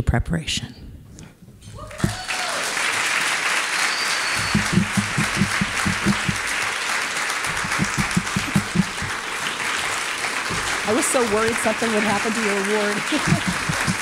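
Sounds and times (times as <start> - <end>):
audience applauding: 1.9 - 14.0
close rhythmic clapping: 1.9 - 14.0.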